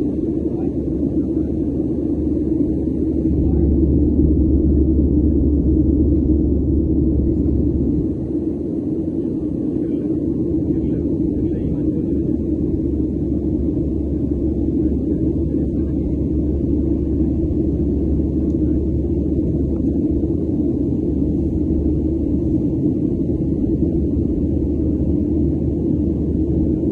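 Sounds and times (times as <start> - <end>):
jet cabin engine rumble: 0.0 - 26.9.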